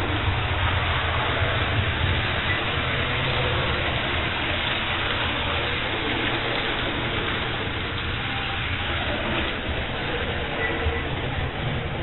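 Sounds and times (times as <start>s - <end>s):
toy train rumbling: 0.0s - 12.0s.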